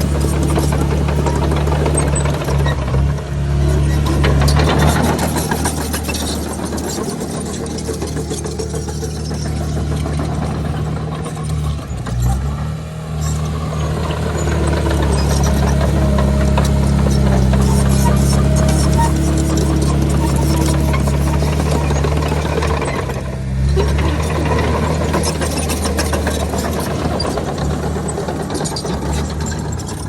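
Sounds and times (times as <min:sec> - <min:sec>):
metal clanks and rattles: 0:00.0 - 0:12.6, 0:13.2 - 0:30.0
heavy machinery diesel engine: 0:00.0 - 0:30.0.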